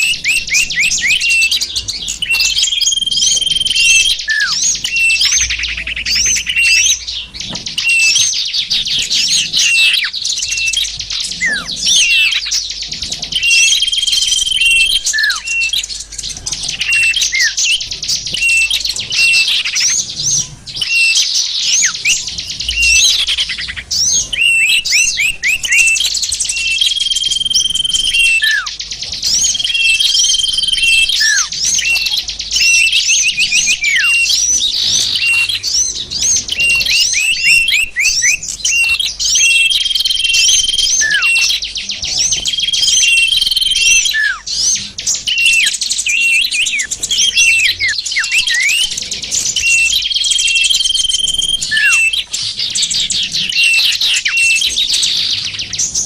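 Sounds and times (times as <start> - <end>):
held bird whistle: 0.0 - 16.1, 16.7 - 56.0
songbirds chirping and trilling: 0.0 - 56.0.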